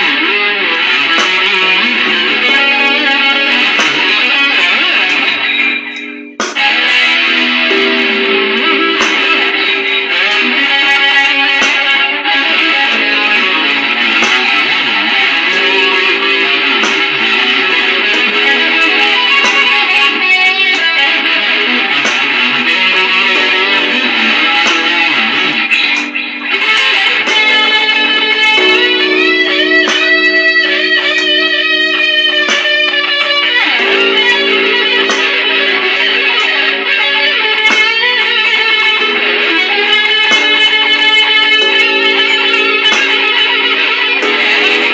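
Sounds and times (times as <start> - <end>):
electric guitar playing blues: 0.0 - 44.9.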